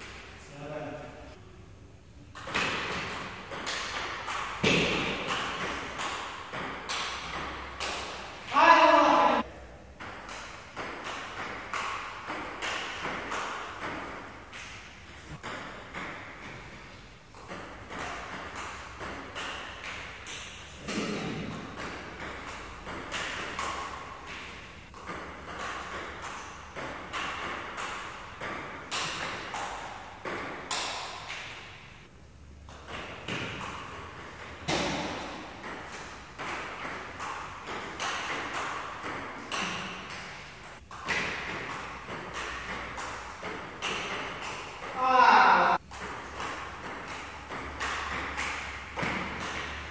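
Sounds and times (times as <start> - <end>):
table tennis ball bouncing on table: 2.3 - 9.2, 10.0 - 16.6, 17.3 - 31.7, 32.6 - 49.9
table tennis ball hitting paddles: 2.3 - 9.2, 9.9 - 31.9, 32.6 - 49.9.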